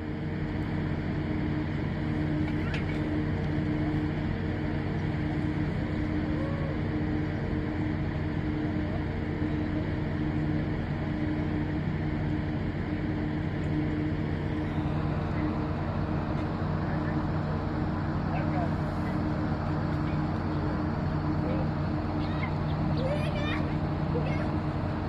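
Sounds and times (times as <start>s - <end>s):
boat diesel engines humming: 0.0s - 25.0s.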